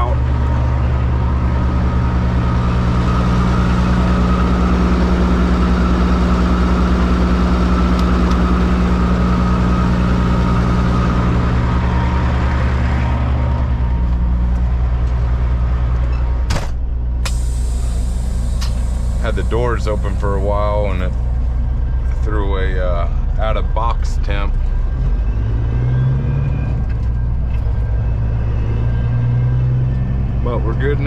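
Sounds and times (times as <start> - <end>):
diesel truck engine idling: 0.0 - 25.6.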